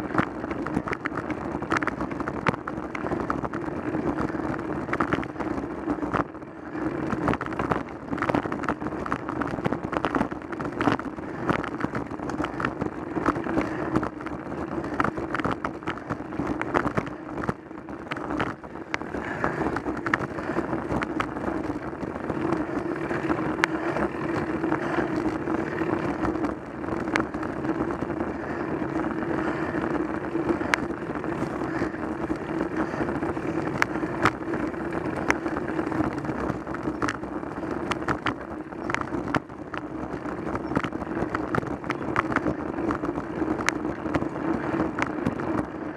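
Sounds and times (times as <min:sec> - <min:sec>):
bike clicks and rattles: 0:00.0 - 0:45.9
tyre and road hum: 0:00.0 - 0:45.9.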